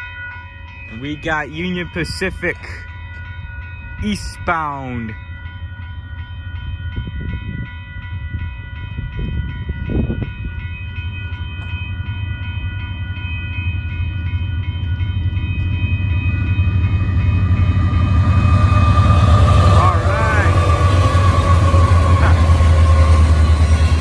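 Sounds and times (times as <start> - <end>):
railroad crossing bell ringing: 0.0 - 24.0
freight train rumble: 0.7 - 24.0.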